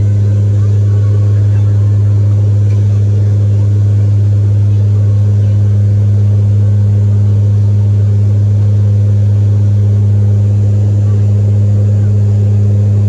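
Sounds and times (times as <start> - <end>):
airliner engine drone: 0.0 - 13.0.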